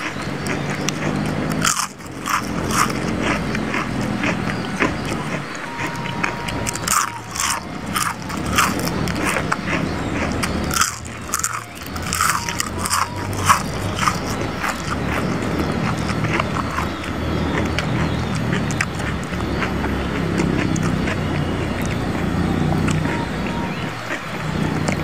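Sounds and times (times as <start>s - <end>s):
crunching fried food: 0.0s - 25.0s.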